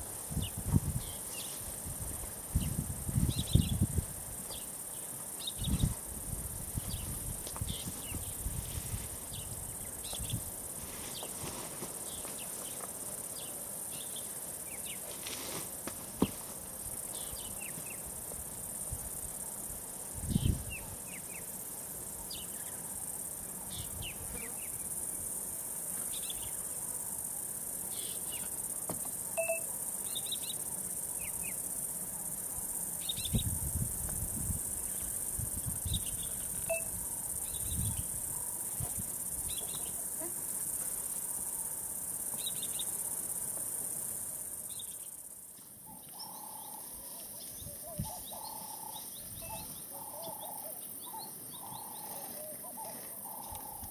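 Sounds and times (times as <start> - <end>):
high insect drone: 0.0 - 53.9.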